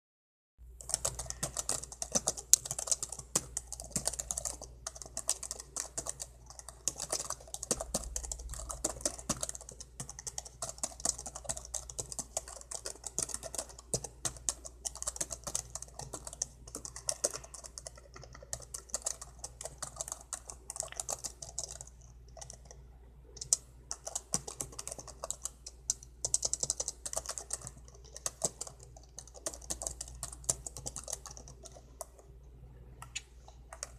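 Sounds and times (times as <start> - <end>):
faint low hum: 0.6 - 33.9
typing on laptop keyboard: 0.8 - 32.3, 33.0 - 33.9.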